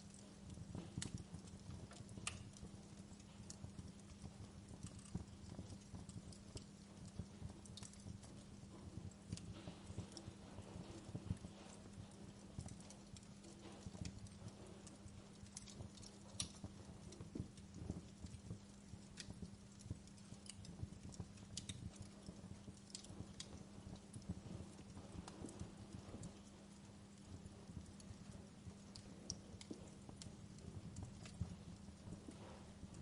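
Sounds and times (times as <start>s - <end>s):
fire pops and snaps: 0.0s - 33.0s
low steady hum: 0.0s - 33.0s
wood fire crackling: 0.0s - 33.0s.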